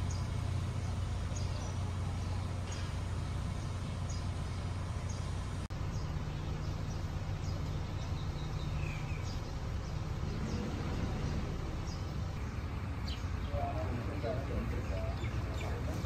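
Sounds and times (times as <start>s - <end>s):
birds chirping: 0.0s - 16.0s
low background hum: 0.0s - 16.0s.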